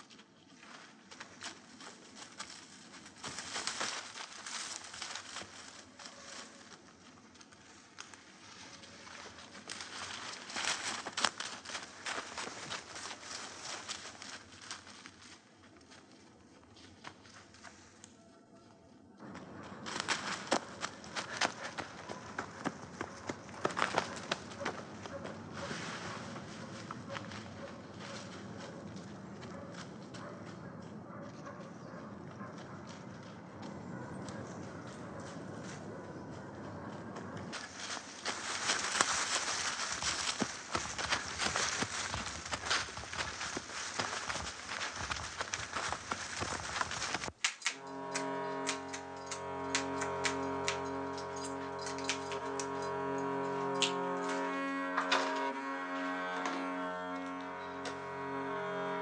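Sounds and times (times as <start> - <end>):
running footsteps in dry leaves: 0.0 - 59.0.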